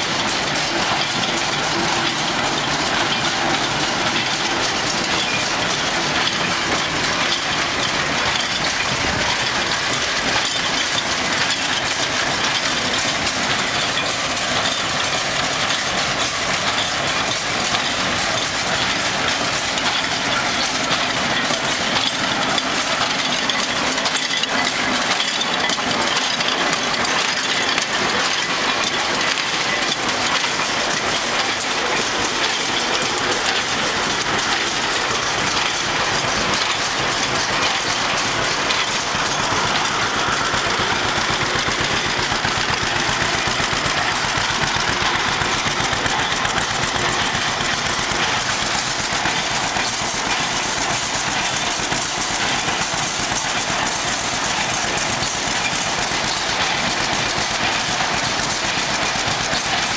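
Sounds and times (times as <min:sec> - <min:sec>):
baler mechanical clatter: 0:00.0 - 0:59.9
tractor engine running: 0:00.0 - 0:59.9.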